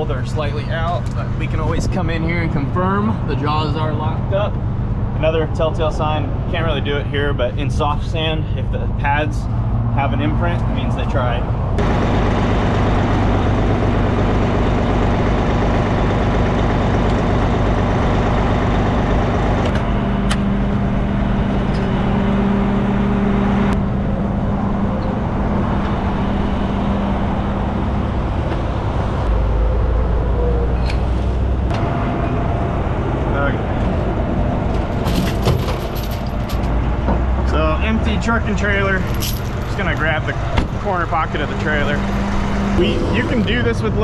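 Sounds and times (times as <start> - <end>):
diesel trucks idling: 0.0 - 44.0
road and traffic noise: 0.0 - 44.0.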